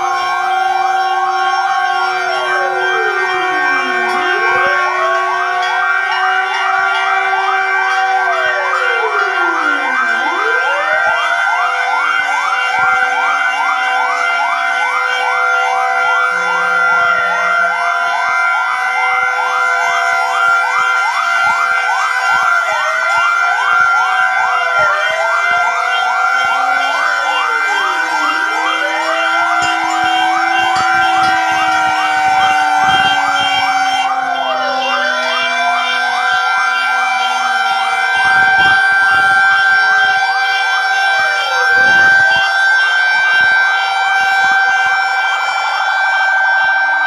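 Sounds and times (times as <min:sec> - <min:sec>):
emergency vehicle sirens: 0:00.0 - 0:47.0.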